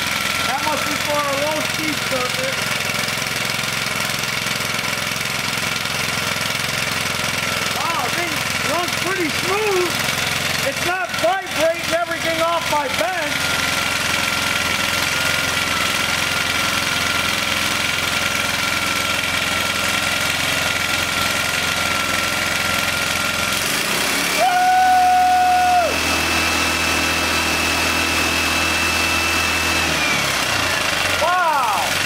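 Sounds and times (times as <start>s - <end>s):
small petrol engine running: 0.0s - 32.0s.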